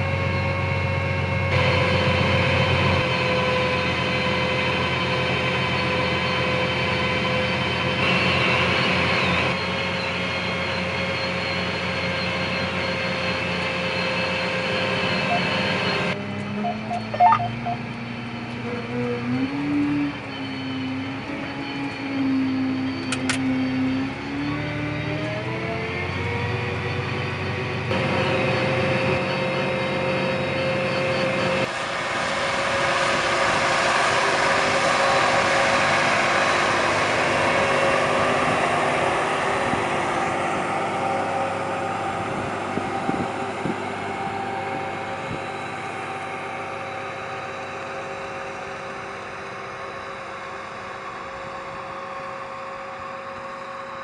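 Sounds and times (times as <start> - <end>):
tractor diesel engine running: 0.0 - 19.3, 26.1 - 54.0.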